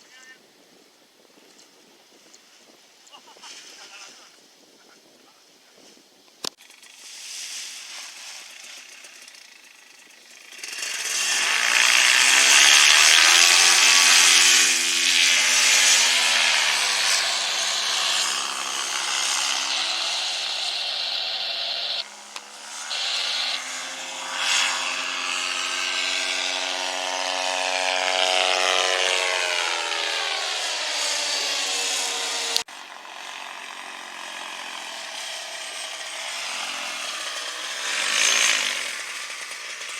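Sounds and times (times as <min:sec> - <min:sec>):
small engine revving: 0:06.5 - 0:39.9.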